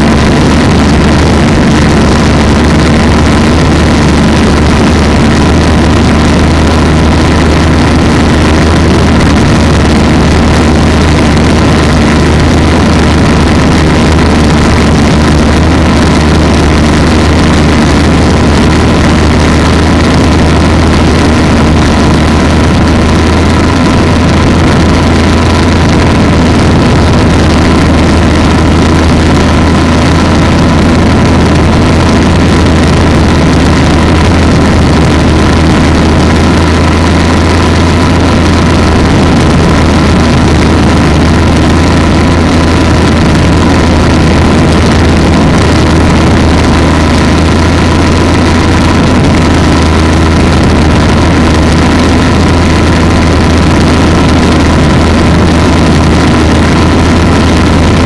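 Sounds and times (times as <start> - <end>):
two-stroke engine running steadily: 0.0 - 58.0.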